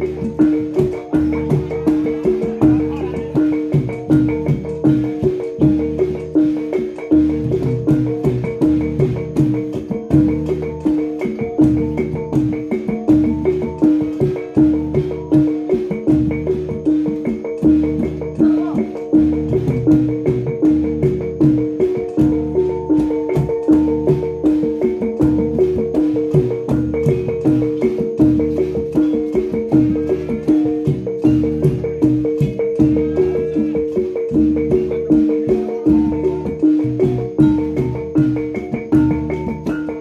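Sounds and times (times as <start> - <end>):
gamelan gongs playing: 0.0 - 40.0.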